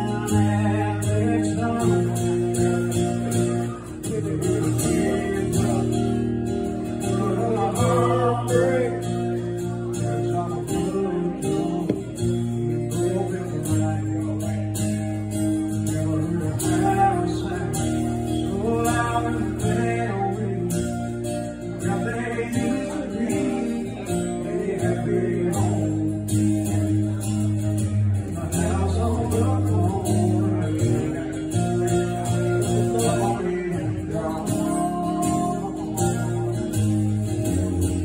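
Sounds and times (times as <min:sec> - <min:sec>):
acoustic guitar strumming: 0:00.0 - 0:38.0
man singing: 0:00.0 - 0:38.0.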